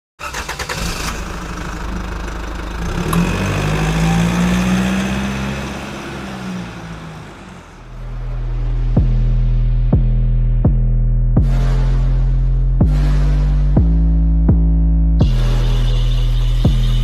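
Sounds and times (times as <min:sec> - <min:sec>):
vehicle engine revving: 0:00.3 - 0:17.0.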